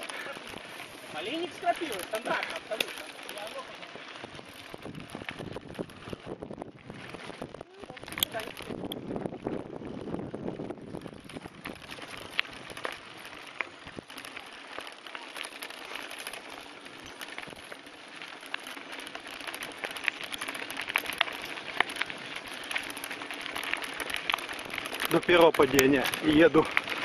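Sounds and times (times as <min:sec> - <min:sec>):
bike clicks and rattles: 0:00.0 - 0:27.0
bike tyres crunching on gravel: 0:00.0 - 0:27.0.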